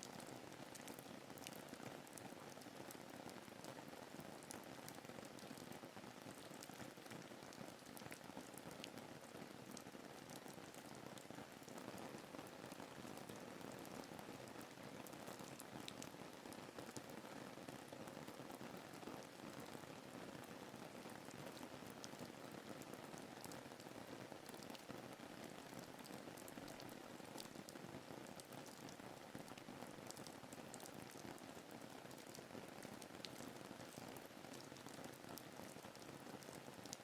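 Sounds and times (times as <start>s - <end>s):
faint steady rain: 0.0s - 37.0s.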